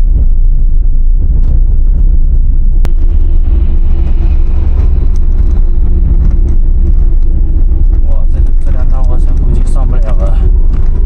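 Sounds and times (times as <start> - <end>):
car driving on snowy road: 0.0 - 11.0.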